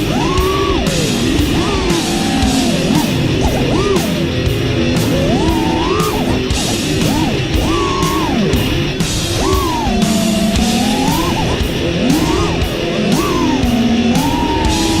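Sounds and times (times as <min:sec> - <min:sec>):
heavy metal music: 0:00.0 - 0:15.0.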